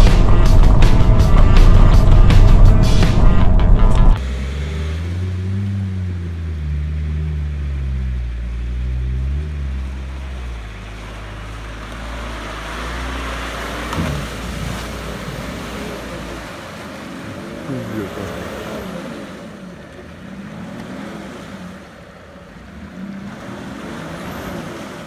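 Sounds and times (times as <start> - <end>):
off-road engine revving: 0.0 - 25.0
muddy water splashing: 4.2 - 25.0.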